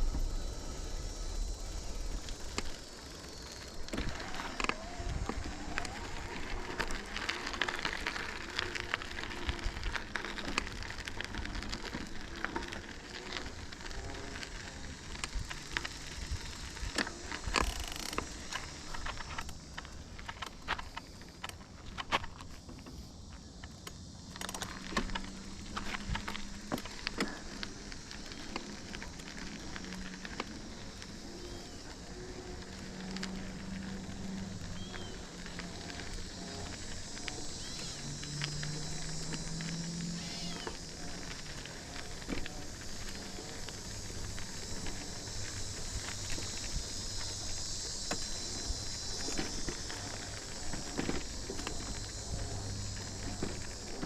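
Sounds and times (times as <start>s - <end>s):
bicycle tyres rolling: 0.0s - 54.0s
small clicks and rattles: 1.4s - 54.0s.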